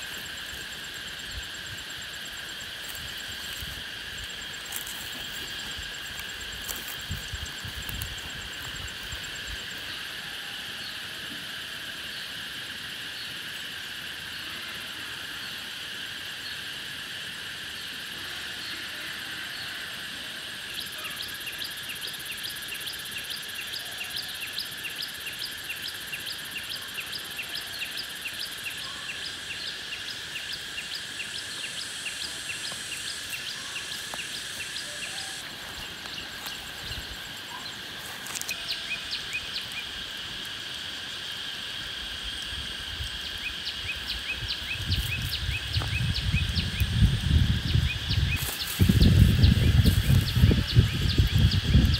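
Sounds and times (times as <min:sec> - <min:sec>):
insect chorus humming: 0:00.0 - 0:51.9
repeated insect chirp: 0:00.0 - 0:51.9.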